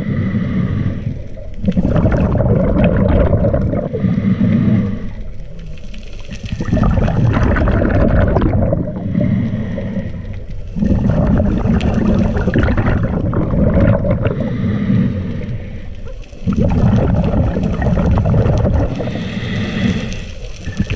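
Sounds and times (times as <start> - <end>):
diver inhaling through regulator: 0.0 - 5.4, 8.6 - 20.9
exhaled bubbles gurgling underwater: 0.0 - 20.9.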